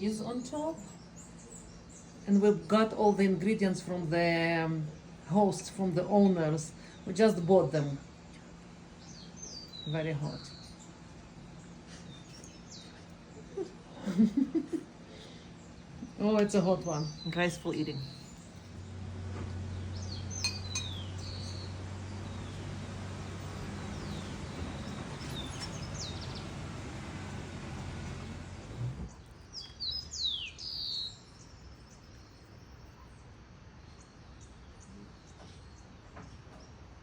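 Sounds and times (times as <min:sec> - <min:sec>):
birds chirping: 0:00.0 - 0:37.0
low hum with hiss: 0:00.0 - 0:37.0.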